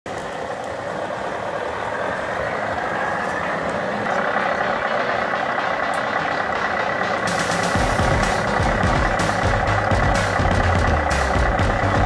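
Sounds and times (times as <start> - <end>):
simulated diesel truck engine: 0.1 - 12.0.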